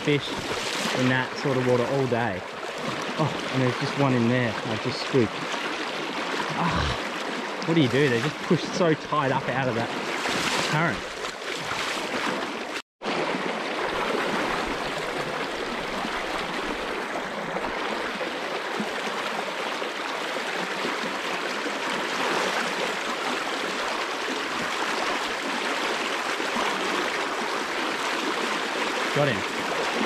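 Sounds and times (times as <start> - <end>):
river water rushing over stones: 0.0 - 30.0.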